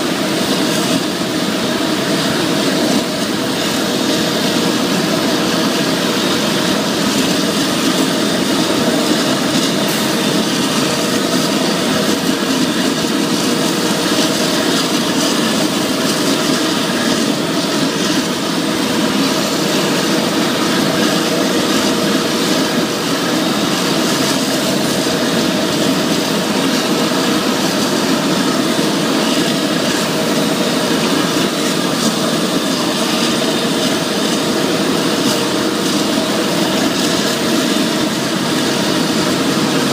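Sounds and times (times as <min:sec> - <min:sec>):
harvester engine running under load: 0:00.0 - 0:39.9.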